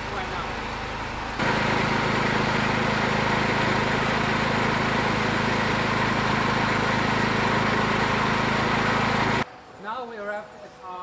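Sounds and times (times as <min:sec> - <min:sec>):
small gasoline engine running: 0:00.0 - 0:09.4.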